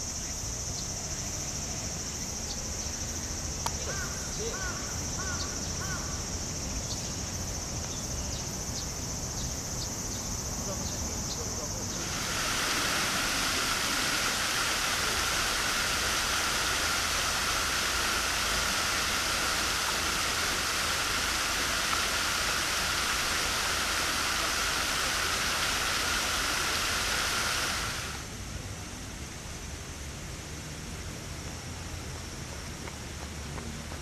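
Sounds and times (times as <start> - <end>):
fountain water splashing: 0.9 - 6.8, 10.6 - 34.0.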